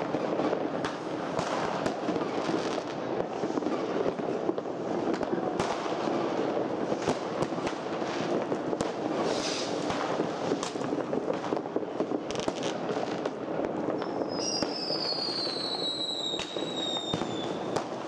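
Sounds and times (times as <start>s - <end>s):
firecrackers crackling: 0.0s - 18.0s
sharp firework cracks: 0.0s - 18.0s
firework hiss: 0.1s - 18.0s.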